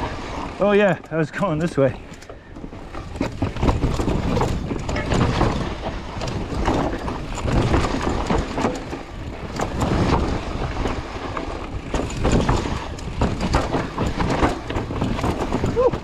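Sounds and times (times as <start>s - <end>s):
bike rattling: 0.0s - 16.0s
tyres rolling over dirt and rocks: 0.0s - 16.0s.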